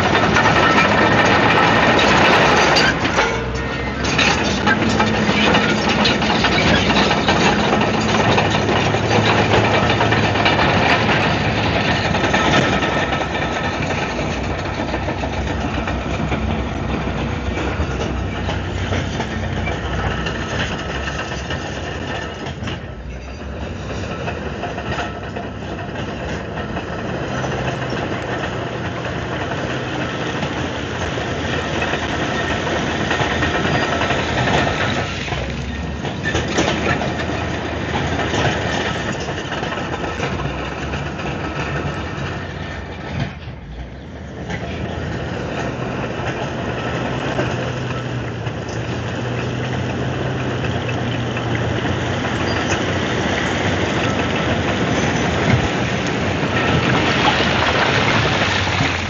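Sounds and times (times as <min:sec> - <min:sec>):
bulldozer diesel engine under load: 0:00.0 - 0:59.0
heavy clatter of tracks: 0:00.0 - 0:59.0.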